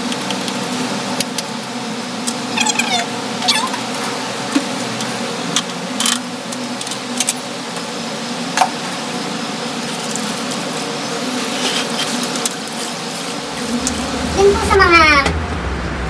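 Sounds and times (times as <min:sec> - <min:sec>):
steady machine hum: 0:00.0 - 0:11.6, 0:12.3 - 0:16.0.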